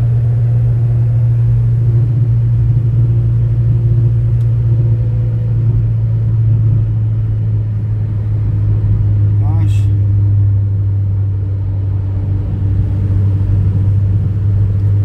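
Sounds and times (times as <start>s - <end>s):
car engine drone: 0.0s - 15.0s
road noise: 0.0s - 15.0s
wind through car window: 0.0s - 15.0s.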